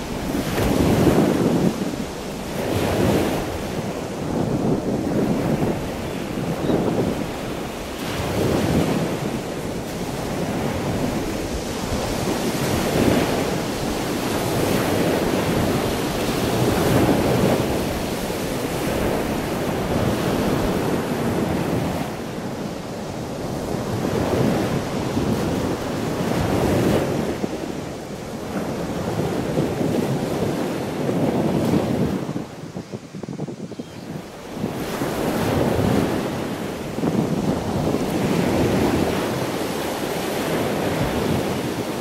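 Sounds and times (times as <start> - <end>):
ocean surf breaking: 0.0 - 42.0
wind buffeting microphone: 0.0 - 42.0.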